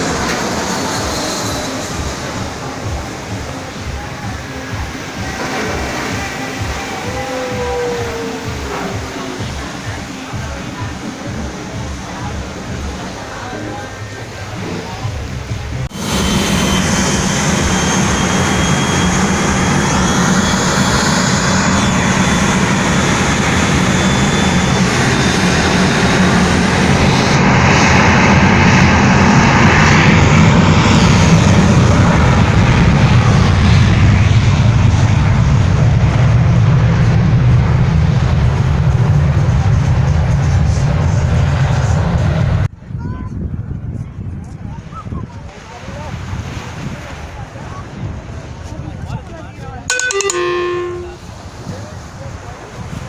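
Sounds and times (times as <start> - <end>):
jet engines whining and rushing: 0.0 - 42.7.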